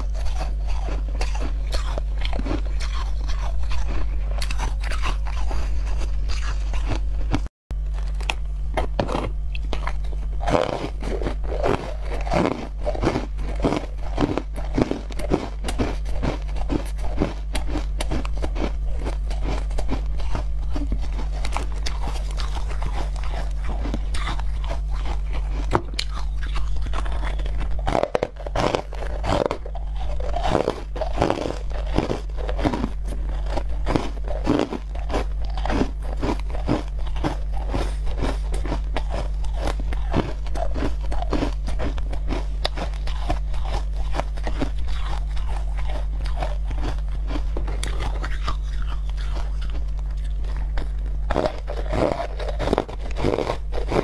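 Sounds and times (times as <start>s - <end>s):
crunching ice: 0.0s - 54.0s
steady low hum: 0.0s - 54.0s.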